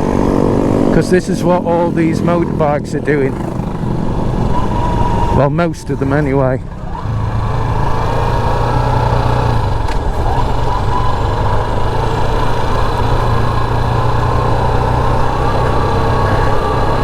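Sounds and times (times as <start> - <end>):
motorcycle engine running: 0.0 - 17.0
road noise: 0.0 - 17.0.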